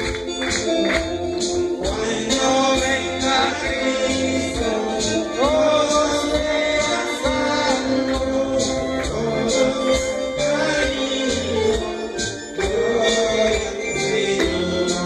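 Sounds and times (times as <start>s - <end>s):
electronic keyboard playing hymn: 0.0s - 15.0s
steady beat: 0.0s - 15.0s
voices singing: 0.0s - 15.0s.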